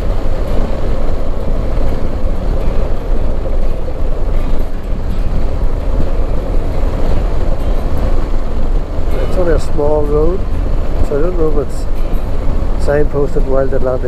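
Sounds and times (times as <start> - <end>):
motorcycle cruising: 0.0 - 14.0.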